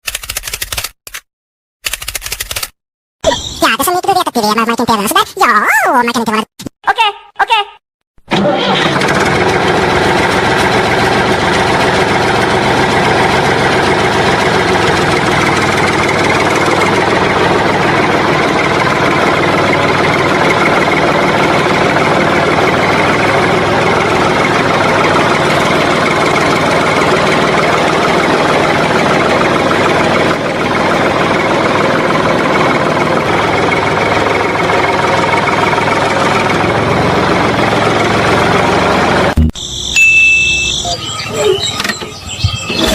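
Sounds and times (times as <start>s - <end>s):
engine running steadily: 8.3s - 42.9s.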